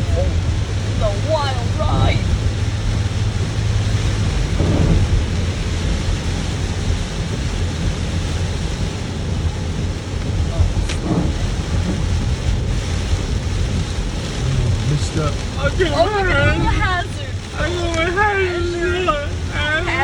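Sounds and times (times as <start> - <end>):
low rumble: 0.0 - 18.0
heavy rain drumming on car: 0.0 - 20.0.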